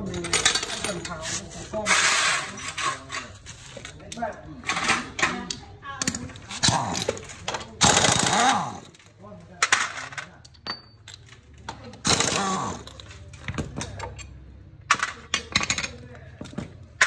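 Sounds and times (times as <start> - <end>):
metal tools and bolts rattling: 0.0 - 17.0.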